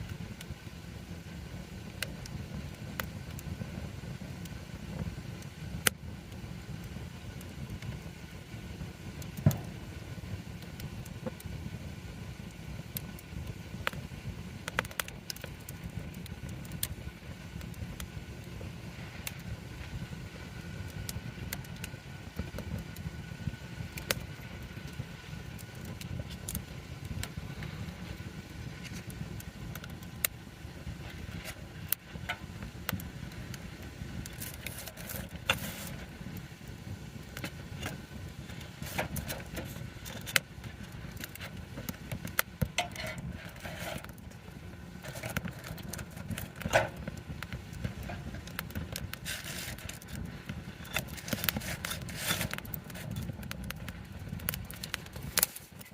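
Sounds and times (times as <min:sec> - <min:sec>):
steady low rumble: 0:00.0 - 0:55.3
campfire crackling and popping: 0:00.0 - 0:55.9.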